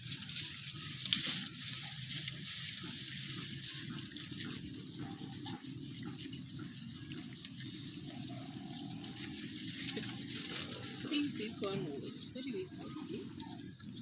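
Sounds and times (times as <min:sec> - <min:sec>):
faint drips: 0:00.0 - 0:14.0
water trickling: 0:00.0 - 0:14.0.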